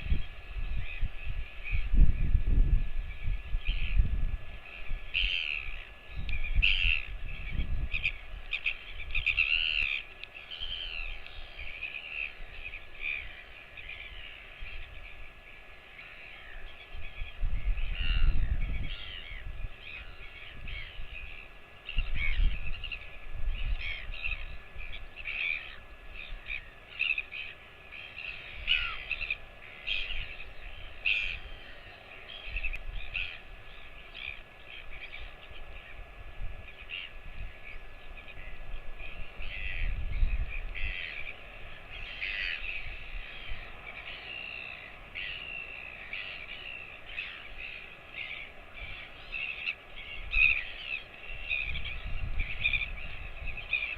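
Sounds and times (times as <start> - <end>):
bird calls: 0.0 - 53.9.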